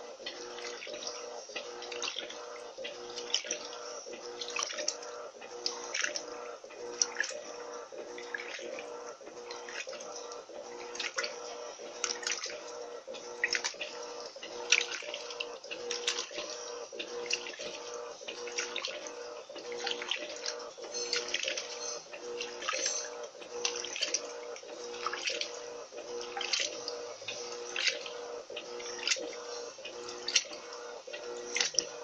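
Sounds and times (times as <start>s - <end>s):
washing machine motor hum: 0.0s - 32.0s
water sloshing in washing machine: 0.0s - 32.0s.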